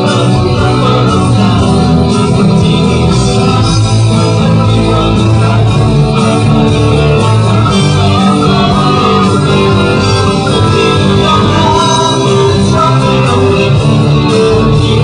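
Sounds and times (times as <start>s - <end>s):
live band playing with guitar: 0.0s - 15.0s.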